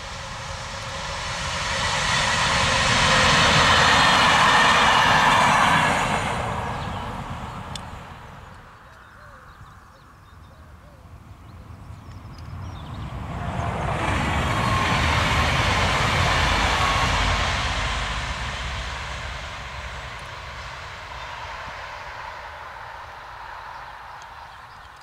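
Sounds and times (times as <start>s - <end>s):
electric train running past: 0.0s - 10.2s, 11.1s - 25.0s.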